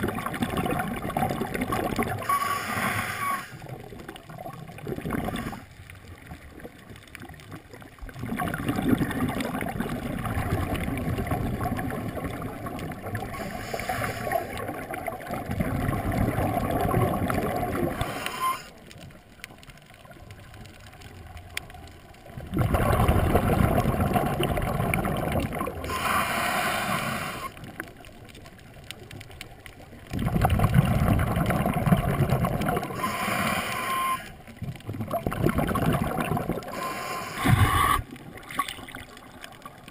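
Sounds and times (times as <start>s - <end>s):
diver's bubbles gurgling underwater: 0.0s - 39.9s.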